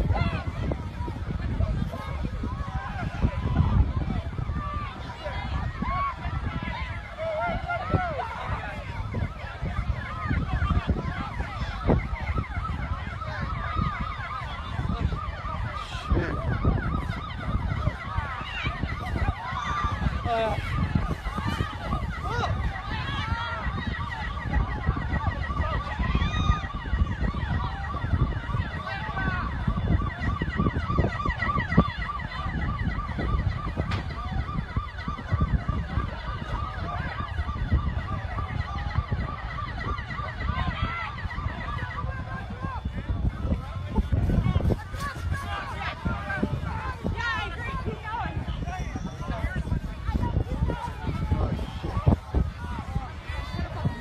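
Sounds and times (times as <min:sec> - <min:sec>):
emergency sirens wailing: 0:00.0 - 0:54.0.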